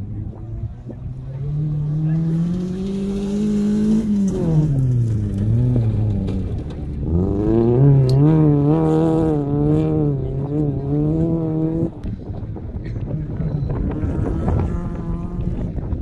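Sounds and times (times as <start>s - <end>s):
car engine revving hard: 1.3s - 12.0s, 13.2s - 15.7s.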